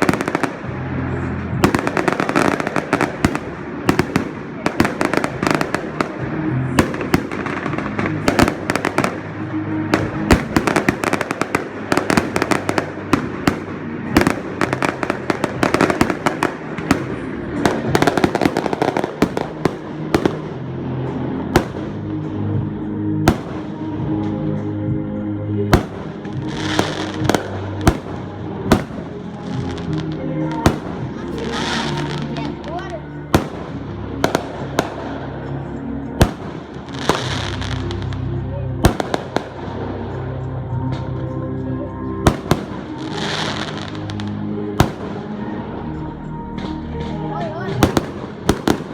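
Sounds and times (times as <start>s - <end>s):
fireworks bangs and crackles: 0.0s - 48.9s
music: 0.0s - 48.9s.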